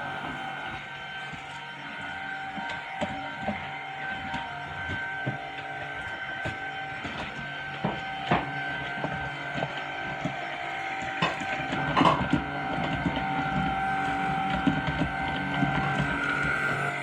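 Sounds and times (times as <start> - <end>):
cordless vacuum motor whine: 0.0 - 17.0.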